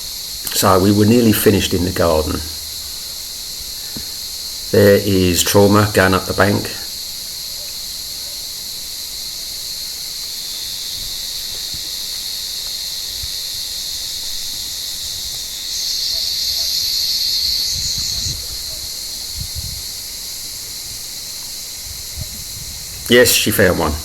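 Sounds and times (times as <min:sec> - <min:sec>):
cicadas buzzing: 0:00.0 - 0:24.0
close loud cicada calling: 0:00.0 - 0:24.0.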